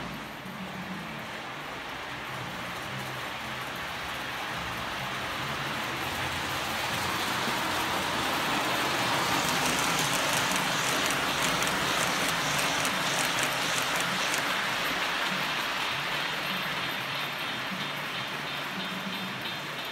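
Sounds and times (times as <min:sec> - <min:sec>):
model train wheels rumbling on rails: 0:00.0 - 0:19.9.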